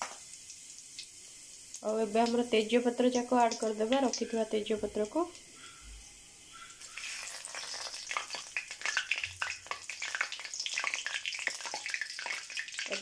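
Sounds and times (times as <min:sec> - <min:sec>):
spices sizzling and popping in oil: 0:00.0 - 0:13.0.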